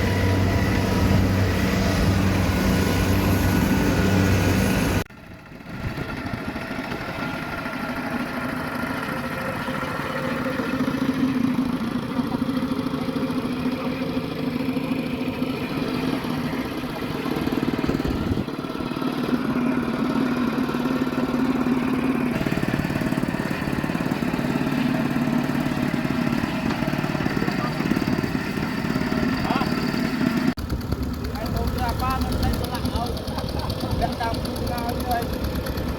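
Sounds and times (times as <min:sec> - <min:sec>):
harvester diesel engine running: 0:00.0 - 0:35.9.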